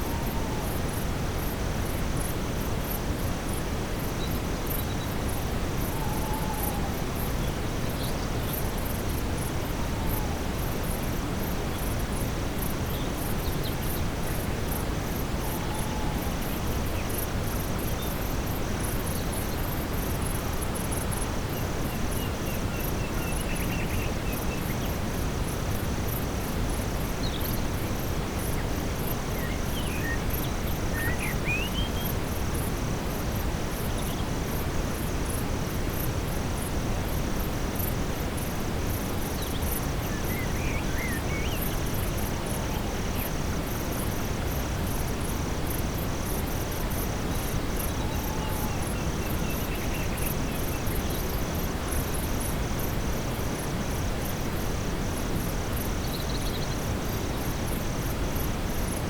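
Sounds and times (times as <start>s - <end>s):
brown noise hiss: 0.0s - 59.0s
crickets and insects chirping: 0.0s - 59.0s.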